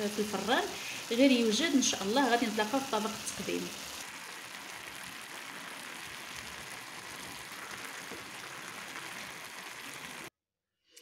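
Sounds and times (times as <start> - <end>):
food sizzling in a pot: 0.0 - 10.3.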